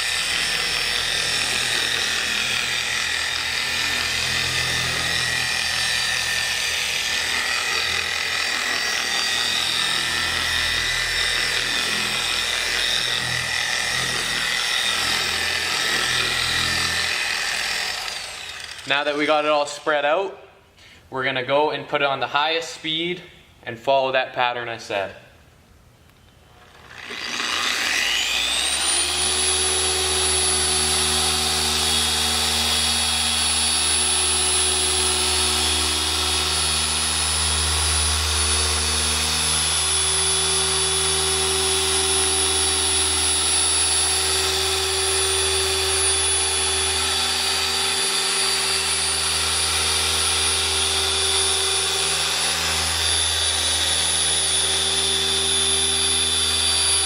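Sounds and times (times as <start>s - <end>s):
electric polisher whining: 0.0s - 19.2s, 26.6s - 57.0s.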